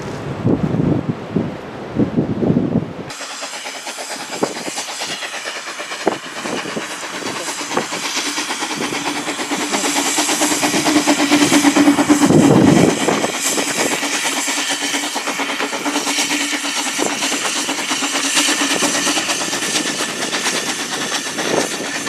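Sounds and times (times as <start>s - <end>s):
hiss of steam: 3.1s - 22.0s
train wheels clicking on rails: 3.1s - 22.0s.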